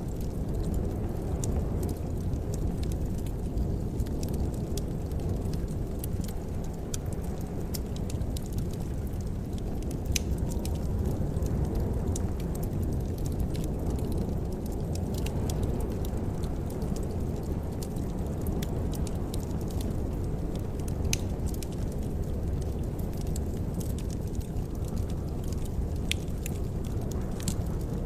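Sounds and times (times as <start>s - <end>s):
fire crackling and popping: 0.0s - 28.0s
wood fire rumbling: 0.0s - 28.0s.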